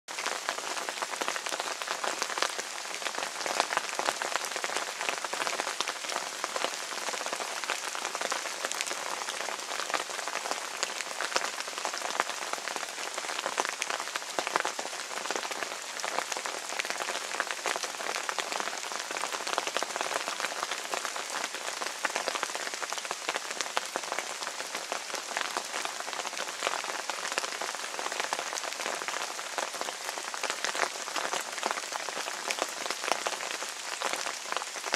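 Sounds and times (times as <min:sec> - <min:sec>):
rain drops hitting surface: 0:00.1 - 0:34.9.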